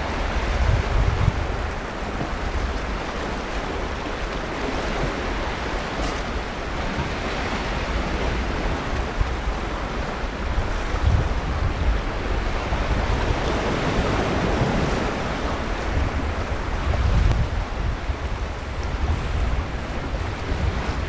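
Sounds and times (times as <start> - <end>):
sea surf washing onto beach: 0.0 - 21.0
wind buffeting microphone: 0.0 - 21.0.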